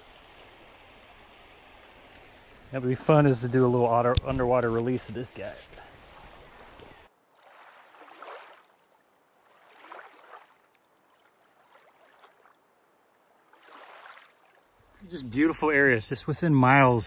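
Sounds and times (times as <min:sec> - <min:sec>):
muffled underwater creek water: 0:00.0 - 0:17.0.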